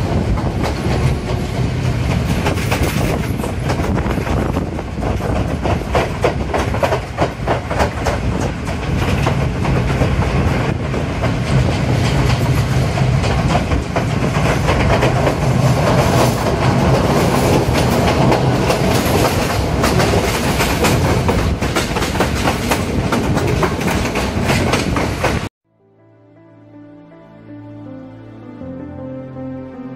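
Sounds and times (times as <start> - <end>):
train rumbling on track: 0.0 - 25.5
wheels clacking over rail joints: 0.0 - 25.5.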